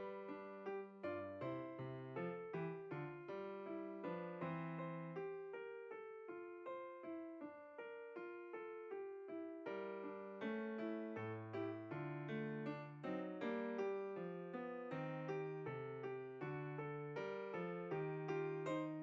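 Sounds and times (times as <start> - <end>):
gentle solo piano melody: 0.0 - 19.0.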